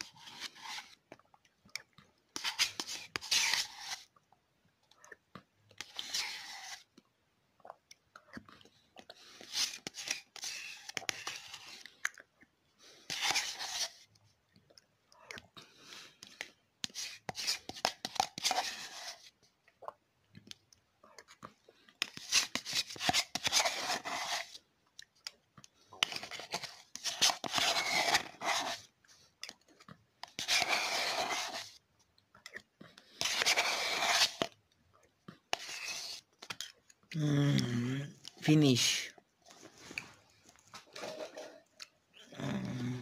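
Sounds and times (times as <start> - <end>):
person slurping yogurt: 0.0 - 38.4, 39.0 - 43.0.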